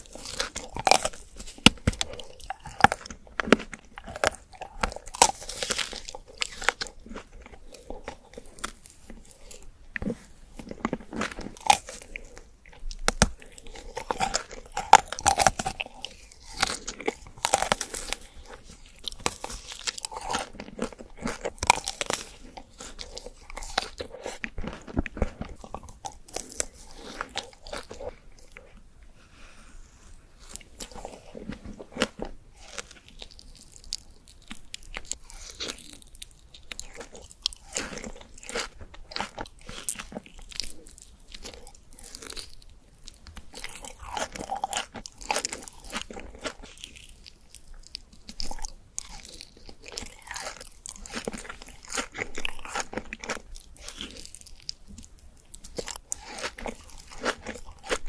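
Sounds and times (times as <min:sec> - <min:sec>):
crunchy chewing of sweets: 0:00.0 - 0:58.0.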